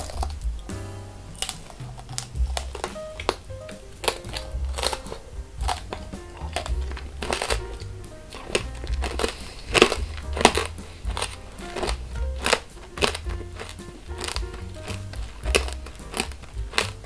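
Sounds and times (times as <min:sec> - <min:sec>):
background music: 0:00.0 - 0:17.0
crunchy candy chewing: 0:01.4 - 0:17.0.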